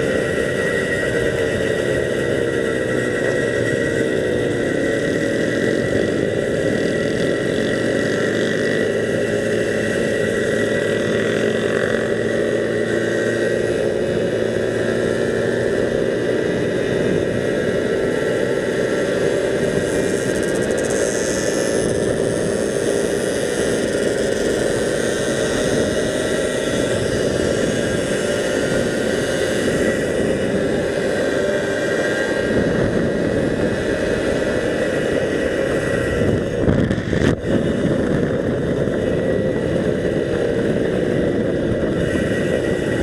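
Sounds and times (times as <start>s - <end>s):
motorcycle engine running: 0.0s - 43.0s
wind and road noise: 0.0s - 43.0s.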